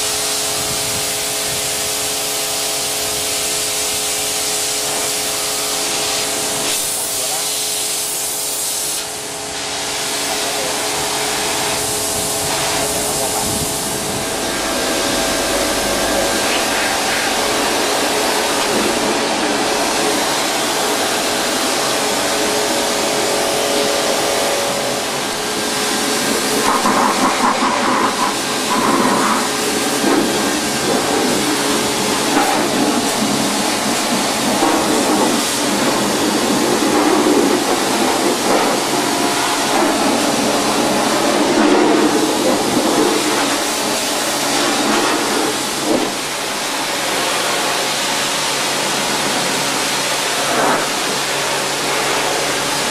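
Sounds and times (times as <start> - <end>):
pressure washer spraying: 0.0 - 52.9.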